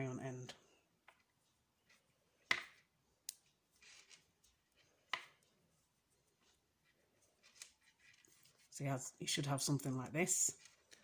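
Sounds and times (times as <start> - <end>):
soft rustle of threads: 0.0 - 11.0.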